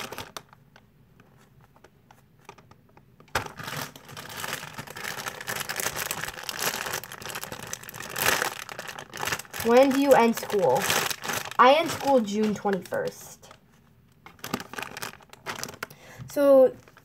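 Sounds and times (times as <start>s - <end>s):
plastic packaging crinkling: 0.0s - 1.8s, 2.4s - 16.1s, 16.7s - 17.0s.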